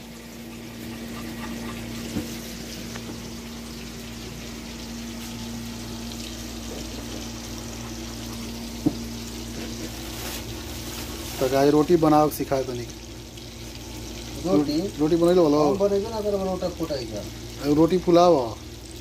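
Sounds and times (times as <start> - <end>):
constant low hum: 0.0 - 17.6.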